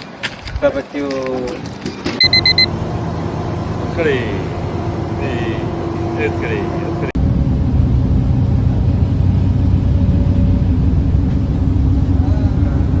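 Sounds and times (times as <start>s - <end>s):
loud low rumble: 2.2s - 13.0s.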